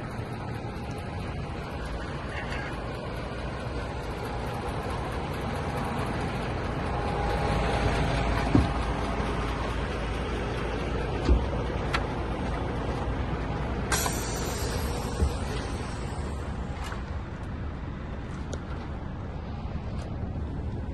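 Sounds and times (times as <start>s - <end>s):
diesel truck engine running: 0.0s - 20.9s.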